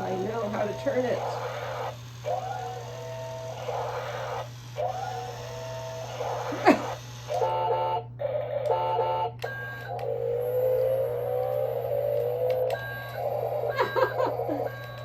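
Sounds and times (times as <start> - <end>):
toy electronic beeping tones: 0.0 - 15.0.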